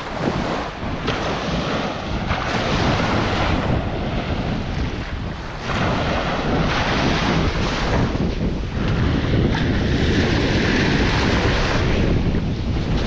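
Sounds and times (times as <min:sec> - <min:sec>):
surf washing up beach: 0:00.0 - 0:13.0
wind buffeting microphone: 0:00.0 - 0:13.0.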